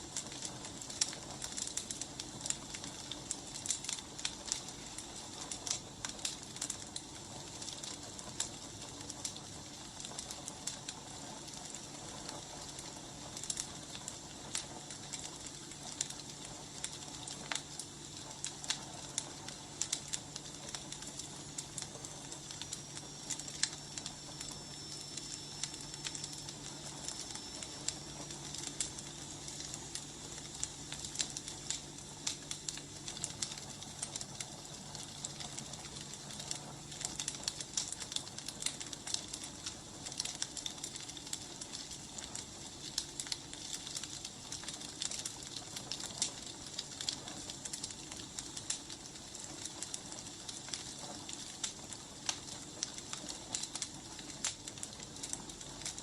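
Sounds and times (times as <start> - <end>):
firewood crackling and popping: 0.0 - 56.0
steady fire hiss: 0.0 - 56.0.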